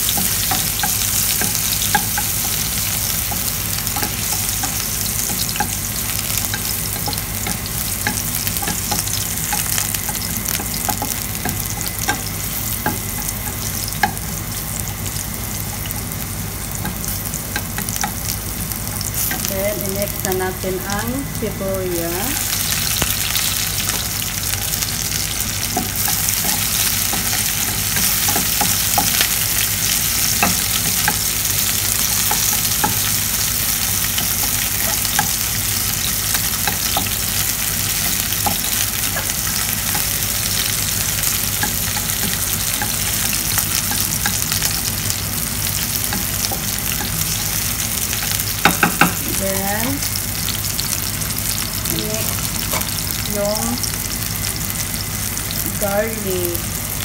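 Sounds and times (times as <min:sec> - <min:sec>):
onions sizzling in oil: 0:00.0 - 0:57.0.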